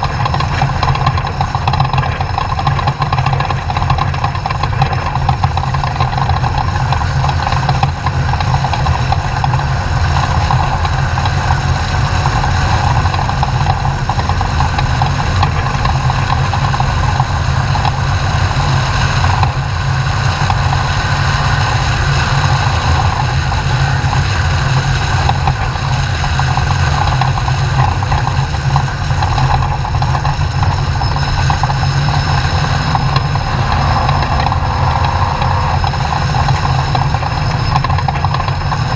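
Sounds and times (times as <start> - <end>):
truck engine running steadily: 0.0 - 38.9.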